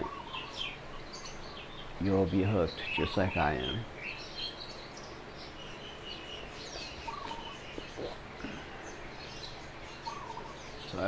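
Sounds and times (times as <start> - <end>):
bird chirps and whistled calls: 0.0 - 11.0
low background noise: 0.0 - 11.0.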